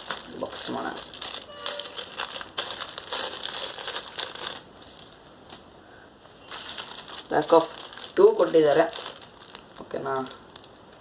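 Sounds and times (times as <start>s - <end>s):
packaging crinkling and rustling: 0.0s - 5.2s, 6.4s - 11.0s.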